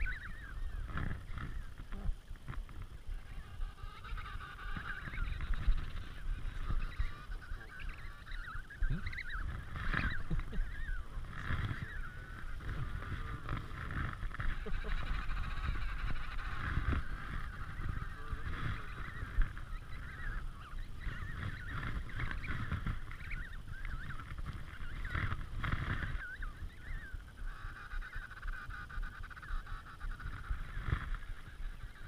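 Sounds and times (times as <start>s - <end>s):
penguin colony calling: 0.0s - 32.0s
wind rumbling on microphone: 0.0s - 32.0s.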